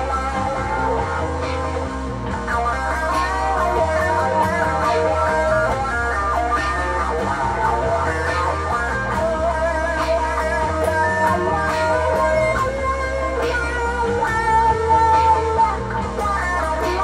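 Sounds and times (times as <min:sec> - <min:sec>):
electric guitar through amplifier: 0:00.0 - 0:17.0
looped backing with bass line: 0:00.0 - 0:17.0.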